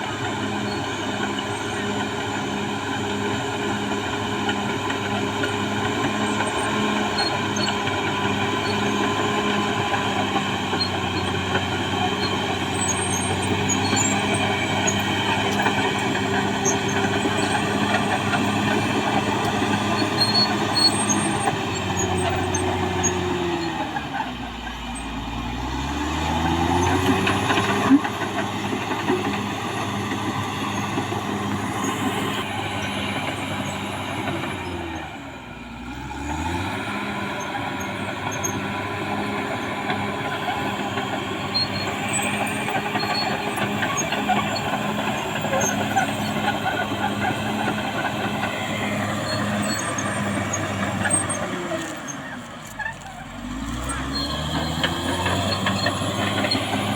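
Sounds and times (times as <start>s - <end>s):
bulldozer diesel engine revving: 0.0s - 56.9s.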